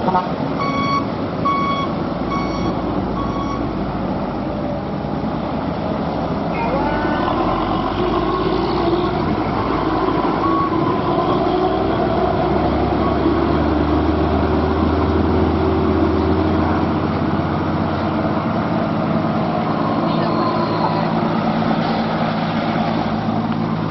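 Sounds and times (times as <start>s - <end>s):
light truck engine hum: 0.0s - 23.9s
tanker truck engine: 0.0s - 23.9s.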